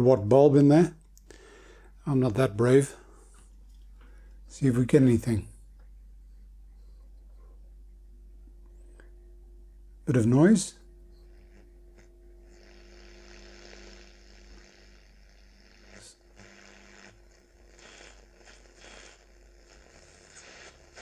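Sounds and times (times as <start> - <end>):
mains hum: 0.0 - 21.0.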